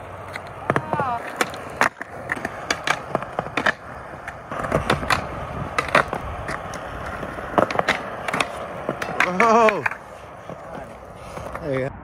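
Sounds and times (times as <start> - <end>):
skateboard clacks: 0.0 - 11.9
skateboard trucks grinding on rail: 0.0 - 11.9
skateboard wheels rolling on concrete: 0.0 - 12.0.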